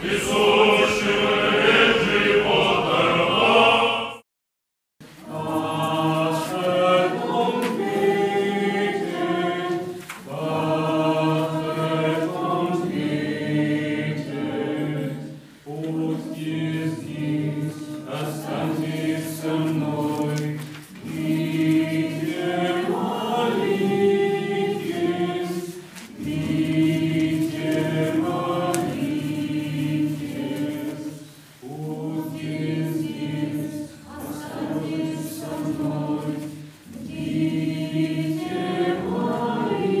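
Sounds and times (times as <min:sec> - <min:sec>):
church choir singing unaccompanied: 0:00.0 - 0:04.2, 0:05.1 - 0:40.0.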